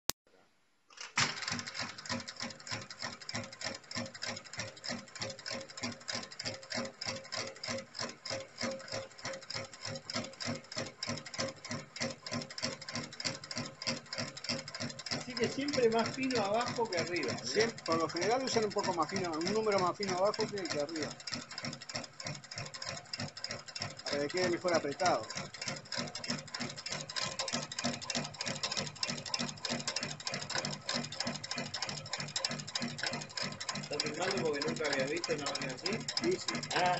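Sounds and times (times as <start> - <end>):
sewing machine clattering: 0.9 - 36.9.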